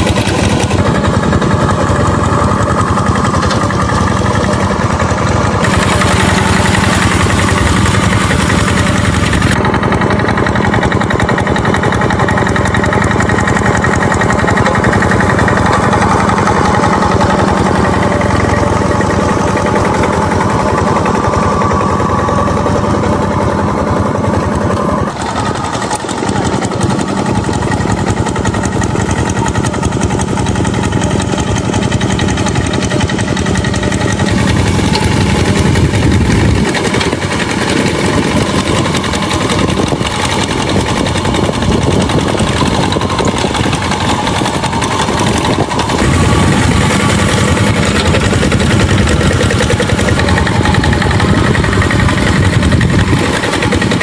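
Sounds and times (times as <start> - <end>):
walking tractor engines running: 0.0 - 54.0
wheels churning through water: 0.0 - 54.0.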